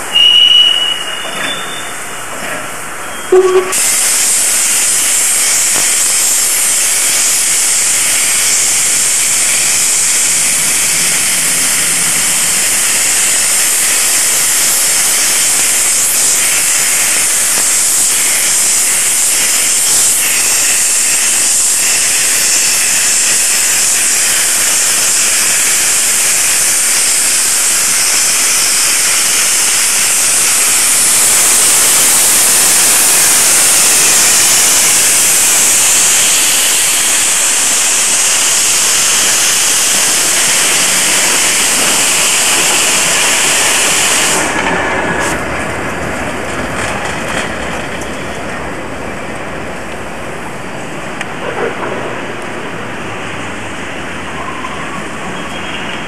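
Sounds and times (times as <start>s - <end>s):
steam hissing from locomotive: 0.0s - 47.8s.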